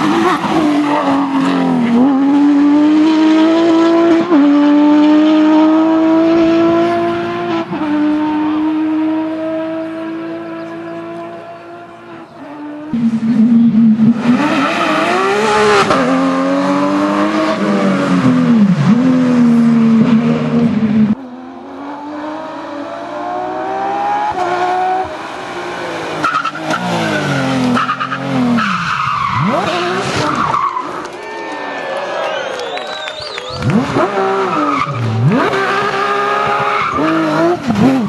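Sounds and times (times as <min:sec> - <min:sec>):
car engine revving hard: 0:00.0 - 0:30.6, 0:33.6 - 0:38.0.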